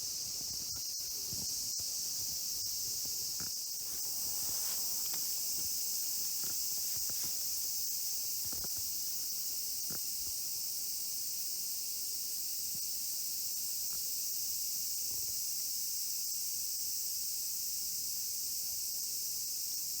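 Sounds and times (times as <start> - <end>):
cicadas buzzing: 0.0 - 18.6.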